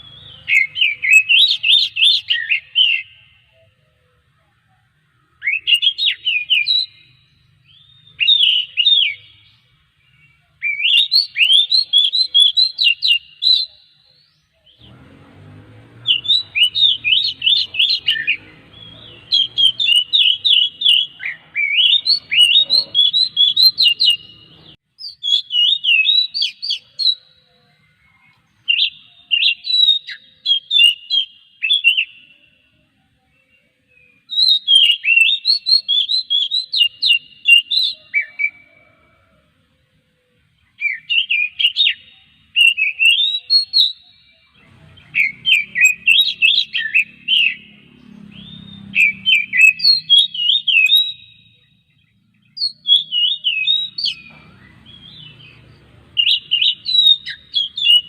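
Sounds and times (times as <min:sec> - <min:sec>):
bird singing whistled notes: 0:00.0 - 0:03.9, 0:05.1 - 0:39.2, 0:40.6 - 0:58.0
faint low background noise: 0:00.0 - 0:58.0.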